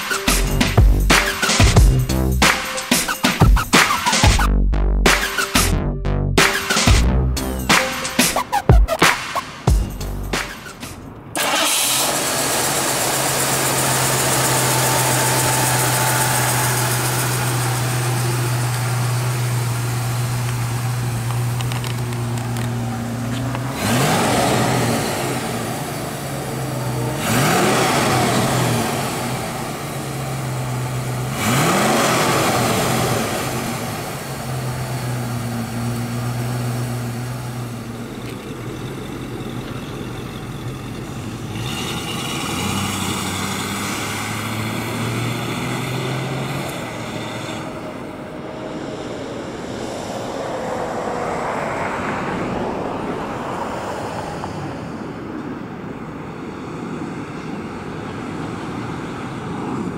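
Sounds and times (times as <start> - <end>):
car engine revving and idling: 0.0 - 2.6, 3.5 - 56.8
car driving off: 3.3 - 59.9.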